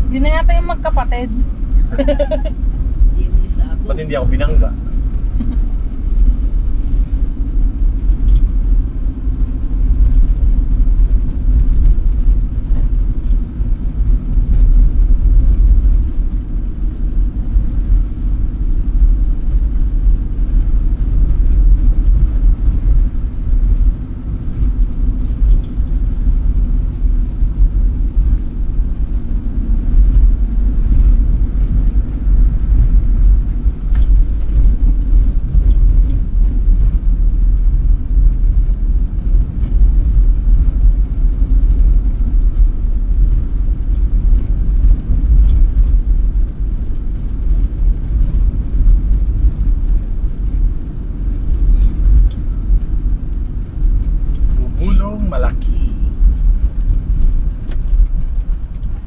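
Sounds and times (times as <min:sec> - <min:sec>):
vehicle rumbling on paved road: 0:00.0 - 0:59.0
wind buffeting microphone: 0:00.0 - 0:59.0.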